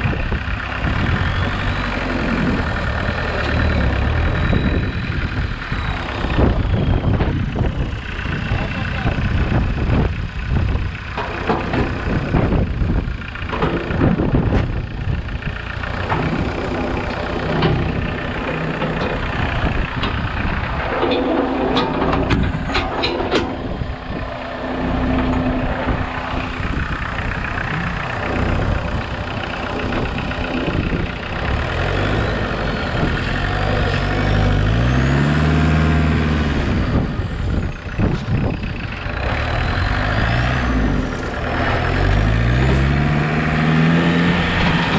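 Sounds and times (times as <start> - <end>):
tractor engine running and revving: 0.0 - 44.9.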